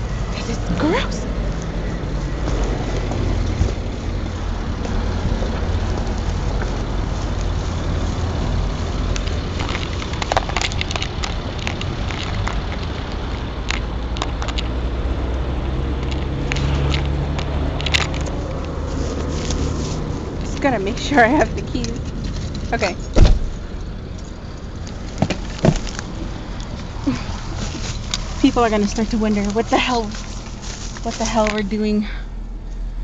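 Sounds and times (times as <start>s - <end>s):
vehicle engine humming: 0.0s - 33.0s
rustling: 0.1s - 14.7s, 17.8s - 31.9s.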